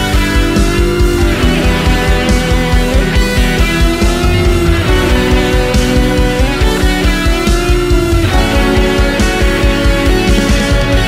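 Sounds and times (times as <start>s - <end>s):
electric guitar: 0.0s - 11.0s
electronic drum kit: 0.0s - 11.0s
fast kick-drum beat: 0.0s - 11.0s
keyboard: 0.0s - 11.0s.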